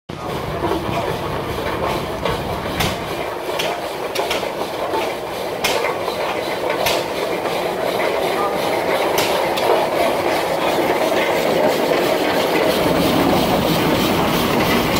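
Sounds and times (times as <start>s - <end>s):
steady mechanical clatter: 0.1s - 14.9s
steam engine exhaust chuffs: 0.1s - 14.9s.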